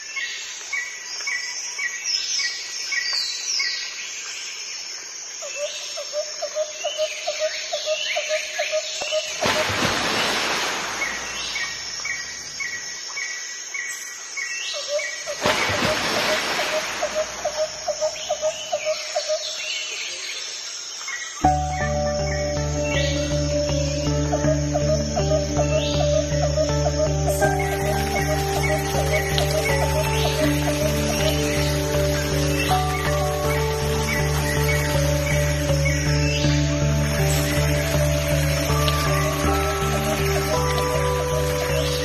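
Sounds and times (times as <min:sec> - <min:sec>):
birds chirping: 0:06.8 - 0:42.0.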